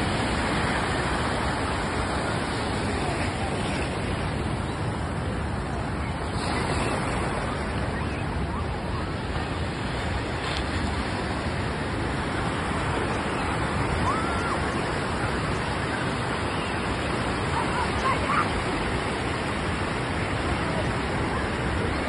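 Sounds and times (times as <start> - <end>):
surf breaking and washing: 0.0 - 22.0.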